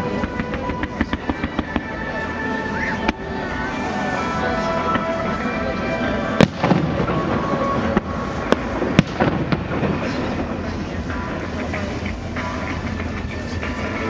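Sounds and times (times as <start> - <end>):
fireworks bangs: 0.0 - 14.0
music: 0.0 - 14.0.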